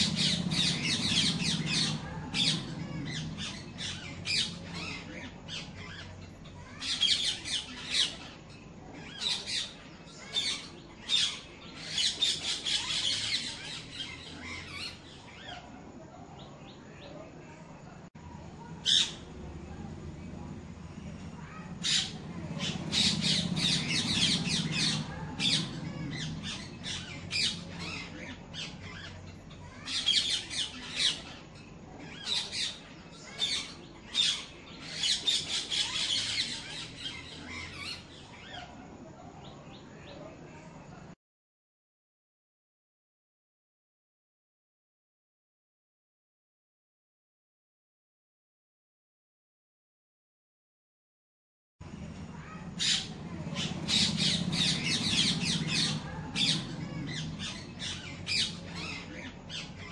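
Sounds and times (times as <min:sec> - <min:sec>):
birds squawking and chirping: 0:00.0 - 0:17.3, 0:18.3 - 0:41.0, 0:51.8 - 0:59.9
low background hum: 0:00.0 - 0:41.2, 0:51.8 - 0:59.9.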